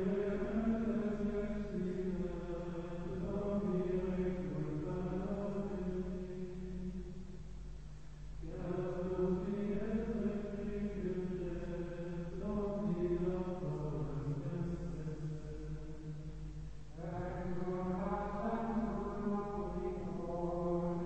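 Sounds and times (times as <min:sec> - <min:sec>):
men singing plainchant in unison: 0:00.0 - 0:06.9, 0:08.4 - 0:15.9, 0:17.0 - 0:21.0.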